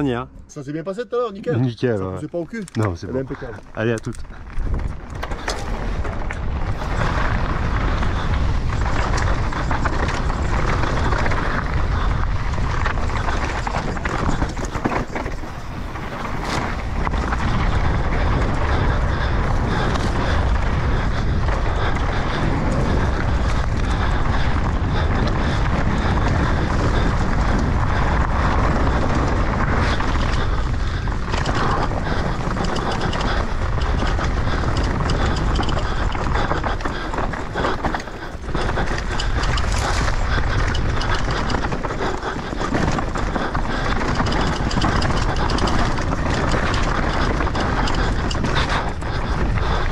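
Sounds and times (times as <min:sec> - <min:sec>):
bike tyres rolling over dirt and stones: 0:01.6 - 0:49.9
wind buffeting microphone: 0:01.8 - 0:49.9
bike knocking and rattling: 0:02.4 - 0:49.9.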